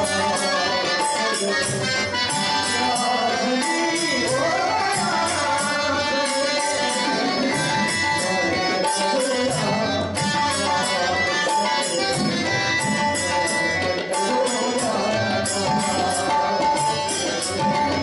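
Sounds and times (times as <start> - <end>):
harmonium melody: 0.0 - 18.0
man singing: 0.0 - 18.0.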